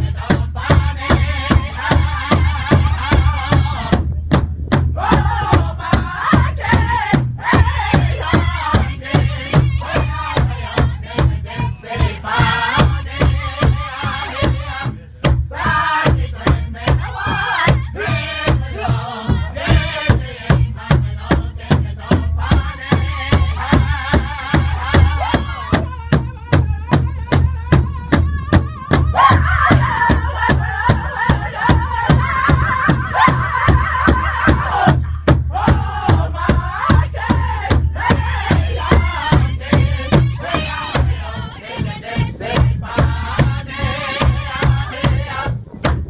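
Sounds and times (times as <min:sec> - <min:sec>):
men singing as a group: 0:00.0 - 0:04.0, 0:04.9 - 0:45.8
large hide drum beating: 0:00.0 - 0:46.0.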